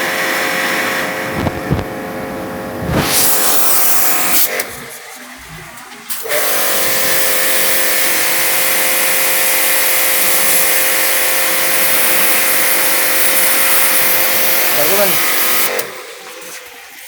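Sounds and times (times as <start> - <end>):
pressure washer machine hum: 0.0 - 17.0
water jet spray hissing: 2.8 - 16.7.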